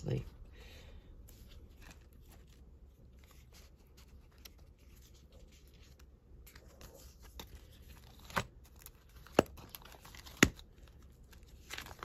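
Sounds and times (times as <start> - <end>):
paper and stickers rustling: 1.2 - 12.0.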